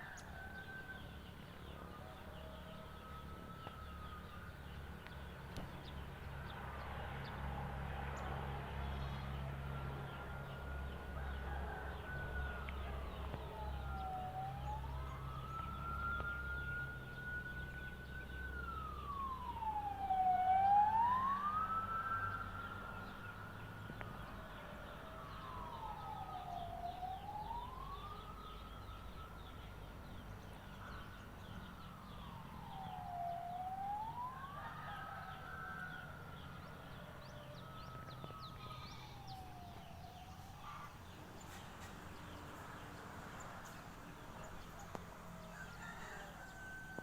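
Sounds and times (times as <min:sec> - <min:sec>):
wailing siren: 0:00.0 - 0:47.0.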